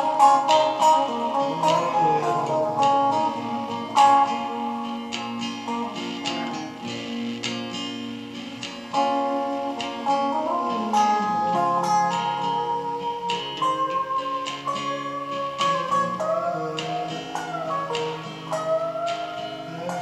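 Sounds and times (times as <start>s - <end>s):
acoustic and electric guitars playing: 0.0s - 20.0s.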